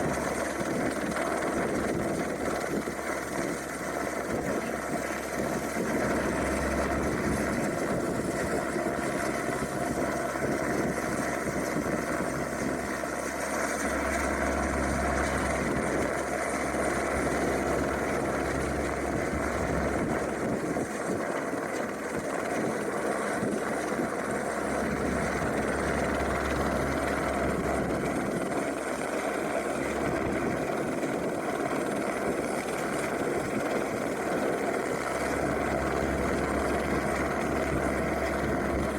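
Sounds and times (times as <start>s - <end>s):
gusting wind rumble: 0.0s - 38.9s
helicopter engine and rotor: 0.0s - 38.9s.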